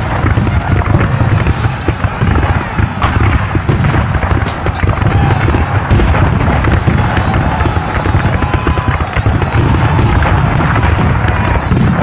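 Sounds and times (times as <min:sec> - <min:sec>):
explosion booms: 0:00.0 - 0:12.0
massed gunfire: 0:00.0 - 0:12.0.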